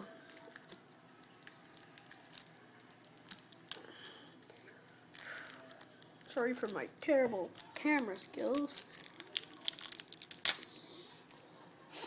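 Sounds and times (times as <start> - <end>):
foil pack crinkling: 0.2 - 11.4.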